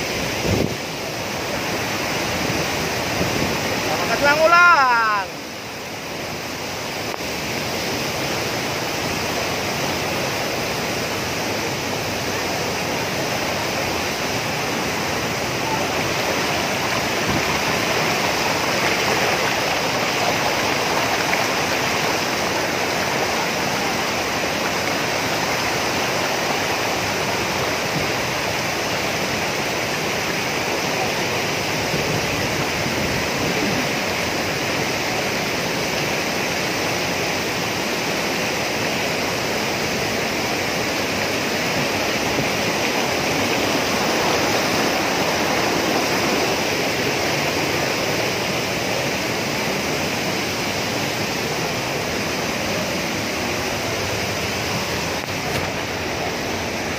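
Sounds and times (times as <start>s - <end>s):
waterfall rushing into pool: 0.0s - 56.9s.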